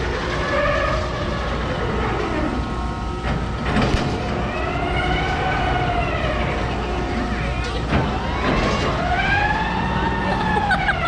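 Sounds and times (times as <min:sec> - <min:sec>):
ride machinery rumbling clatter: 0:00.0 - 0:11.0.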